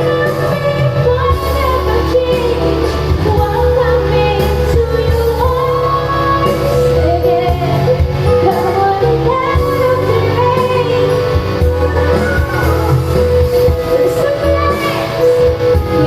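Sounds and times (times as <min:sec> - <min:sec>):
steady bass: 0:00.0 - 0:16.0
woman singing pop song: 0:00.0 - 0:16.0.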